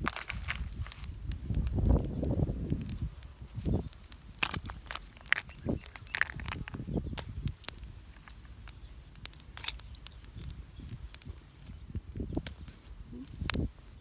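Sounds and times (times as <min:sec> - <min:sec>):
embers clicking and crackling: 0:00.0 - 0:14.0.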